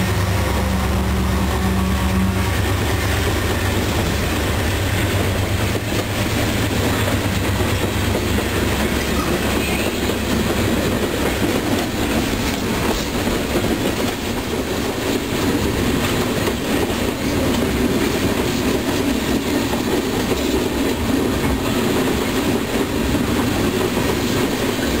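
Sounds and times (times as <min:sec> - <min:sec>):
steel wheels rumbling on rail: 0:00.0 - 0:25.0
wheels clacking over rail joints: 0:02.5 - 0:25.0.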